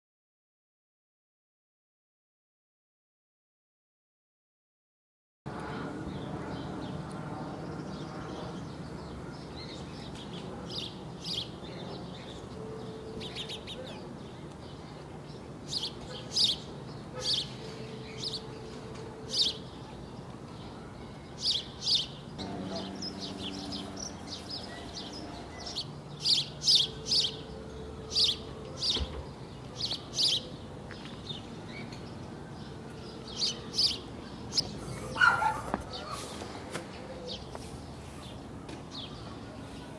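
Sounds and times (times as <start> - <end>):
small birds chirping: 5.6 - 39.9.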